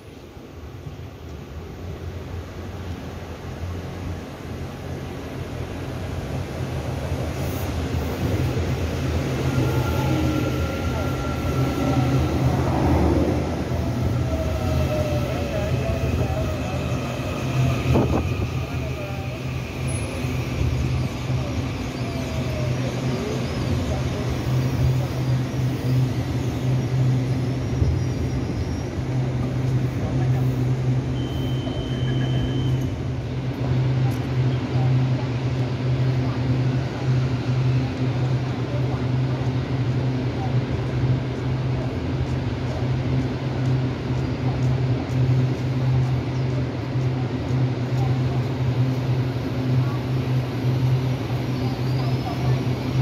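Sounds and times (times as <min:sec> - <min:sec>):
electric train humming: 0:00.0 - 0:53.0.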